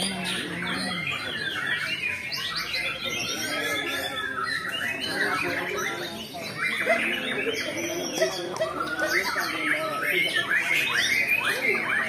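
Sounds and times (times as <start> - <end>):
songbirds whistling and chirping: 0.0 - 12.0.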